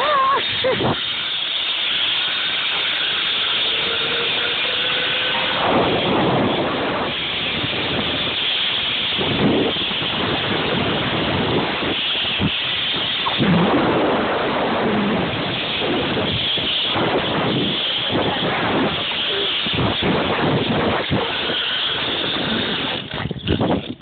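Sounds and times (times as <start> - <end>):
wind rushing over microphone: 0.0 - 1.3, 2.3 - 24.0.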